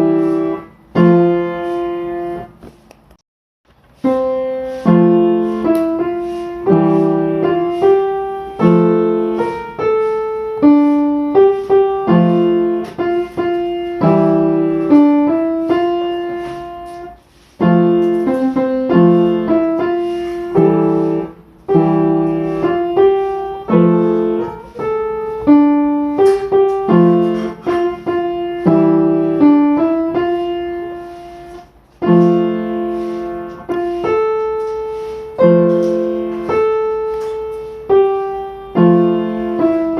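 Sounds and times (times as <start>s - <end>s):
solo piano melody: 0.0s - 2.6s, 3.7s - 39.9s.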